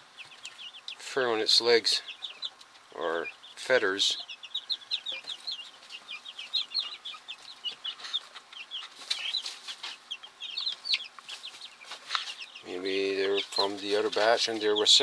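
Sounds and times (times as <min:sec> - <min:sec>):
young chicks peeping: 0:00.0 - 0:15.0.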